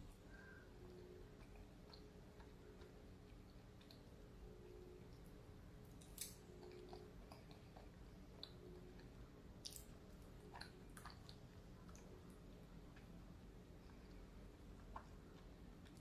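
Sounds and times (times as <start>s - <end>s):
person chewing food: 0.2s - 16.0s.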